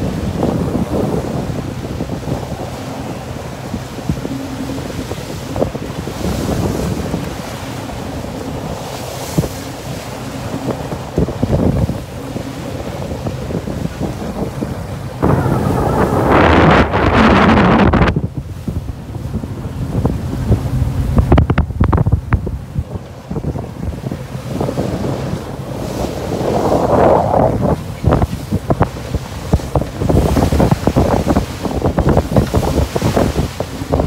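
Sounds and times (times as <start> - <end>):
boat engine humming: 0.0 - 34.0
waves slapping against hull: 0.0 - 34.0
wind buffeting microphone: 0.0 - 34.0.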